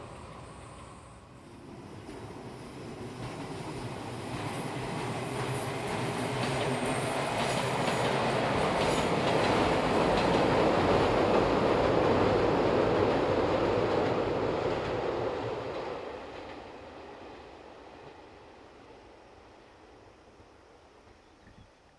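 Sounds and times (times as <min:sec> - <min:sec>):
electric train passing: 0:00.0 - 0:20.2.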